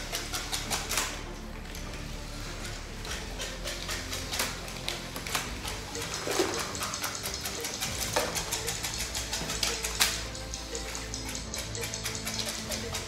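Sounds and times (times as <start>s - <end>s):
plastic bricks clicking and clattering: 0.0s - 13.0s
small electric motors whirring: 0.0s - 13.0s.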